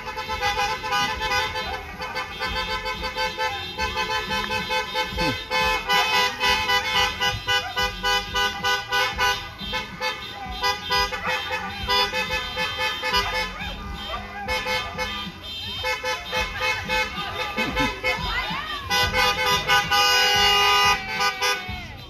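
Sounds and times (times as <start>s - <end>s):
car horn honking: 0.0s - 22.0s.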